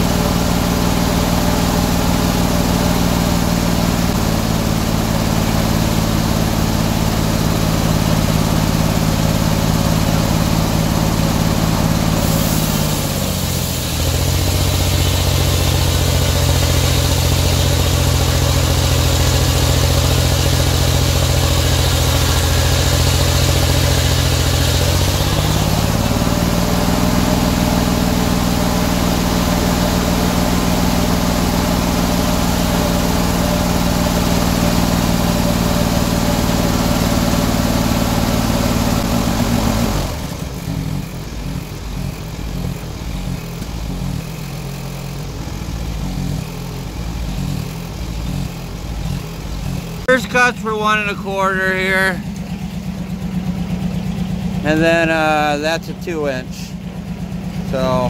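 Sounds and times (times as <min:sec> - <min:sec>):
sawmill engine: 0:00.0 - 0:58.0.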